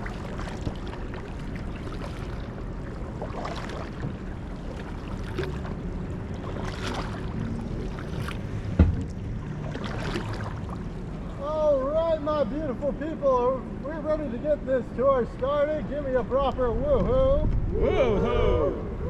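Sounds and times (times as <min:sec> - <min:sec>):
water around kayaks: 0:00.0 - 0:19.0
wind: 0:00.0 - 0:19.0.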